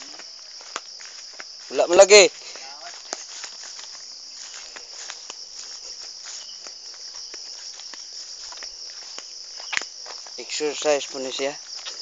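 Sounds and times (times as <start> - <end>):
footsteps rustling through grass: 0.0 - 12.0
insects chirring: 0.0 - 12.0.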